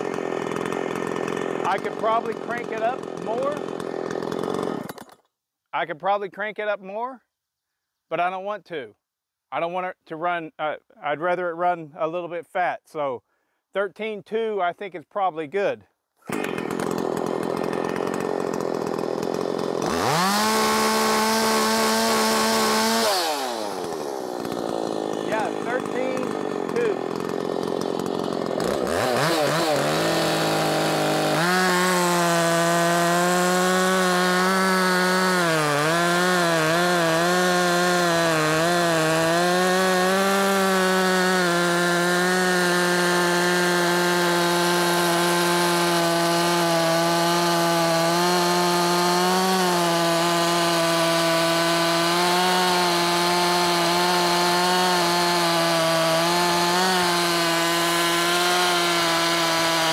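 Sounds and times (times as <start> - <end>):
chainsaw cutting log at full throttle: 0.0 - 5.2, 16.2 - 59.9.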